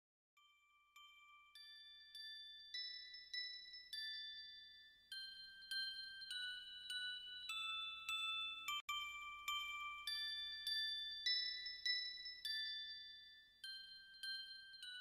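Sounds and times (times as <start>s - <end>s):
bell-like melody: 0.4s - 15.0s.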